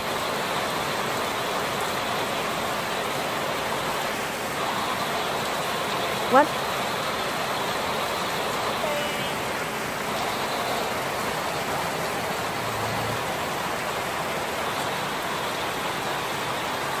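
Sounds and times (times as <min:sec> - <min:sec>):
rain on grass and leaves: 0:00.0 - 0:17.0.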